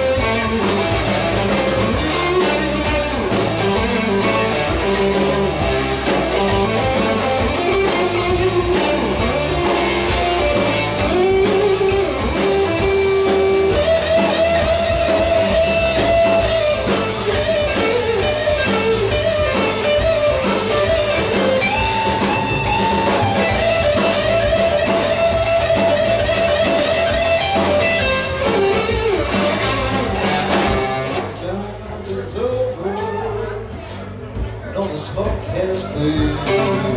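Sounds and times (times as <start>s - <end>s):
electric guitar bent notes: 0.0s - 31.5s
drum kit with cymbals: 0.0s - 36.9s
electric bass: 0.0s - 36.9s.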